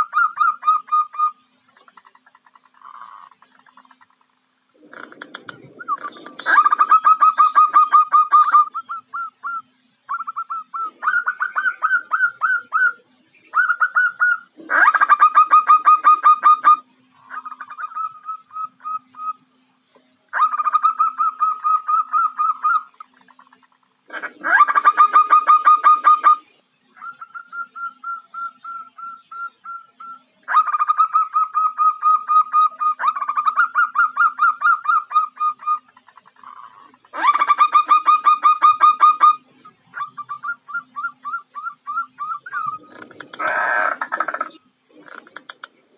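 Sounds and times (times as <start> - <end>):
dove calling in staccato notes: 0.0 - 19.5, 20.3 - 45.9.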